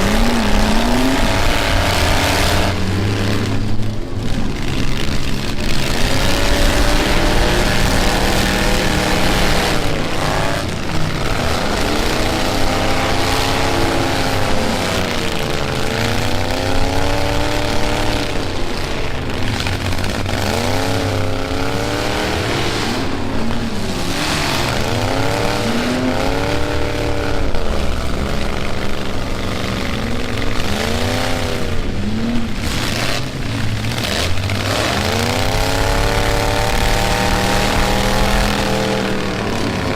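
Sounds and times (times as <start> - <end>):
truck engines revving: 0.0 - 39.9
trucks colliding: 0.0 - 39.9.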